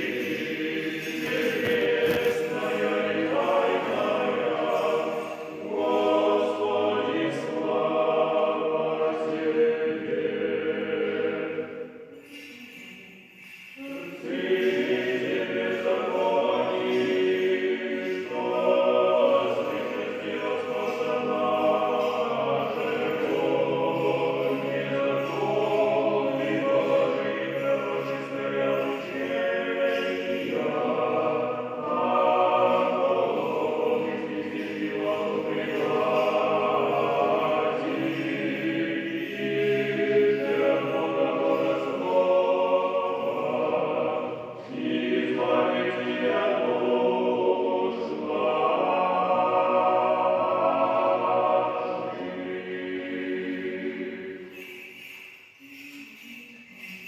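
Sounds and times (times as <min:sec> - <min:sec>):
choir singing long held notes: 0:00.0 - 0:57.0.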